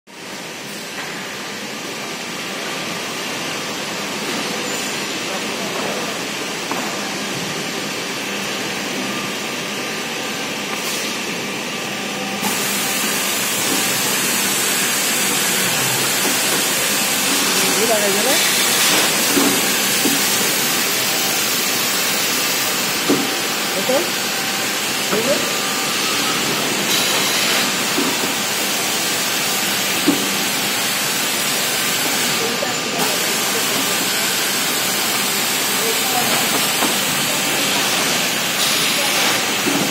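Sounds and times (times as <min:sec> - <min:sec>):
machine hum and air hiss: 0:00.1 - 0:39.9.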